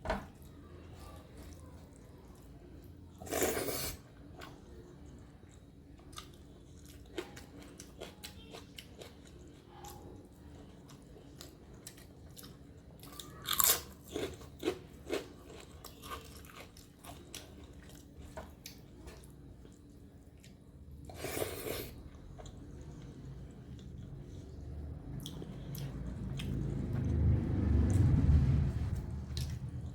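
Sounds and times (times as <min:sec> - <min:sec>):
soft chewing: 0:00.2 - 0:28.2.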